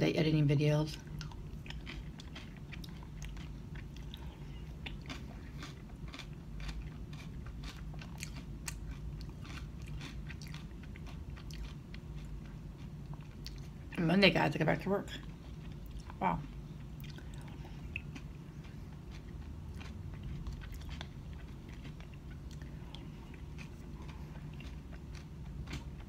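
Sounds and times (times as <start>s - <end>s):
crunchy chewing: 1.0s - 14.0s, 15.2s - 26.0s.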